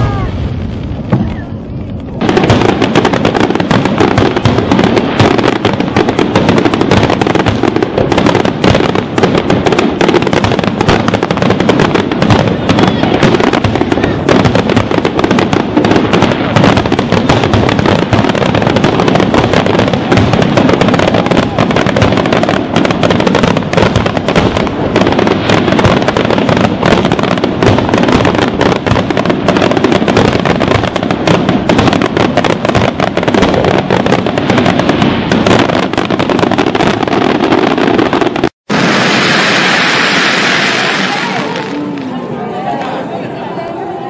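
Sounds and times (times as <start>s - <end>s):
fireworks bangs and crackling: 0.0s - 44.0s.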